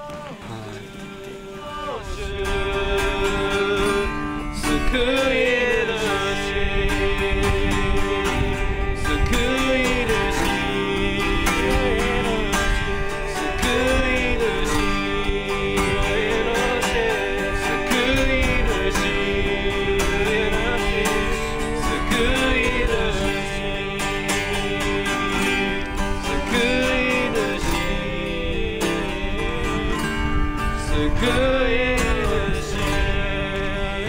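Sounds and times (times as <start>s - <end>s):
acoustic guitar strumming: 0.0s - 34.0s
person singing worship song: 0.0s - 34.0s.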